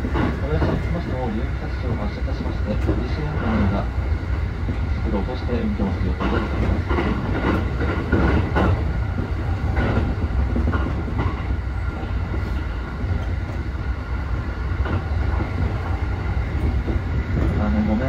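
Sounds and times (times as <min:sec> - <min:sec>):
rail joint clicks: 0:00.0 - 0:18.0
train wheels rumbling on track: 0:00.0 - 0:18.0.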